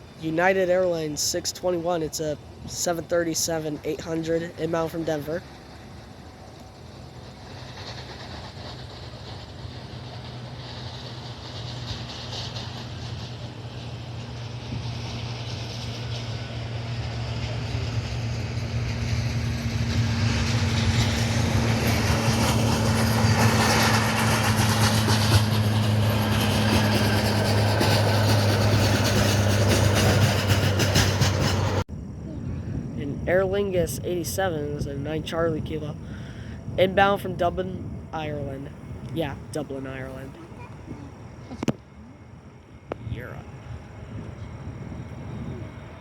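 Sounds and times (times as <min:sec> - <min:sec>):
jet airliner engines on approach: 0:00.0 - 0:46.0.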